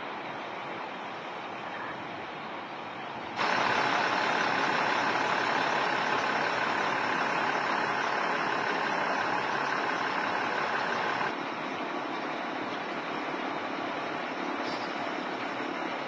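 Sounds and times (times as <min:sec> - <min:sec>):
fire engine idling: 0:00.0 - 0:16.0.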